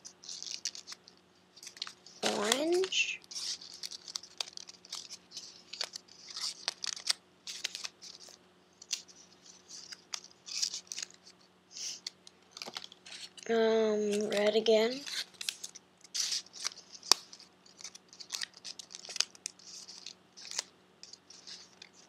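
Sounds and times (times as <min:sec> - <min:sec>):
crisp paper clicks and scrapes: 0:00.0 - 0:22.0
paper rustling and crinkling: 0:00.2 - 0:22.0.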